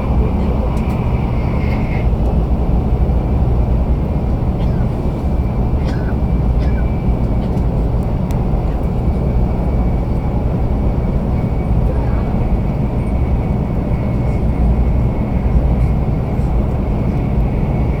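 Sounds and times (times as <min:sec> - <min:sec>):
train rumble inside cabin: 0:00.0 - 0:18.0.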